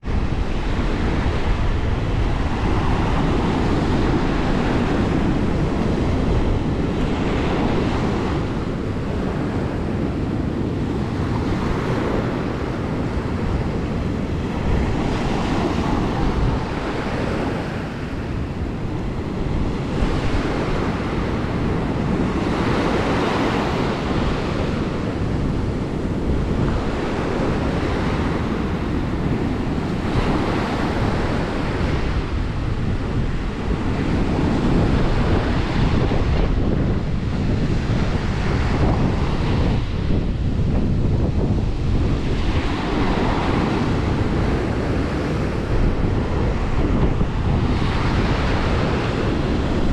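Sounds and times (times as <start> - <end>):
surf breaking on shore: 0.0 - 49.9
wind rumbling on microphone: 0.0 - 49.9.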